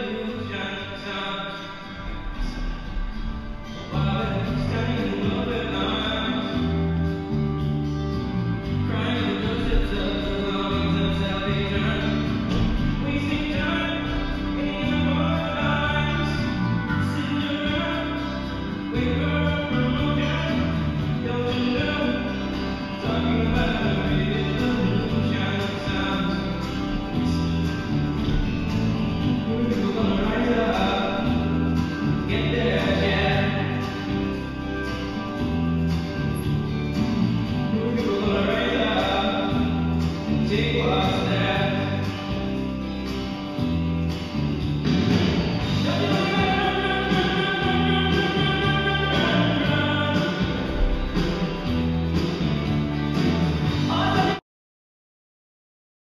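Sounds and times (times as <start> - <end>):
song with singing over beat: 0.0 - 44.3, 44.9 - 54.4.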